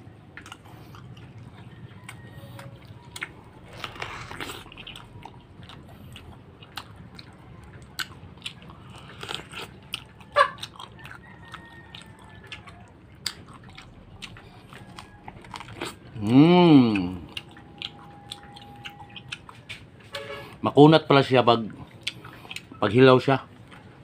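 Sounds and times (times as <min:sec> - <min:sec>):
biting and chewing fruit: 0:00.0 - 0:24.0.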